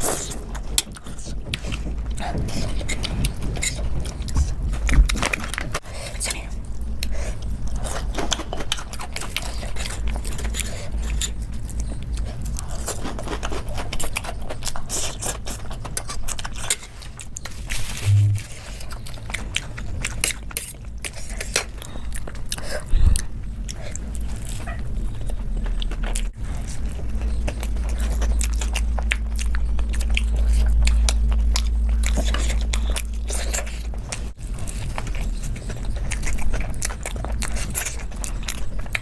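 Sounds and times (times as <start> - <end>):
person biting and chewing food: 6.9 - 39.0.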